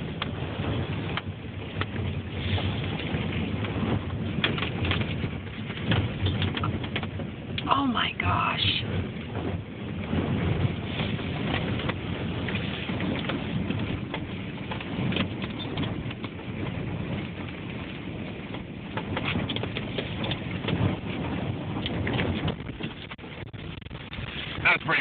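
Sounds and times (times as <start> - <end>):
wind hitting microphone crackling: 0.0 - 25.0.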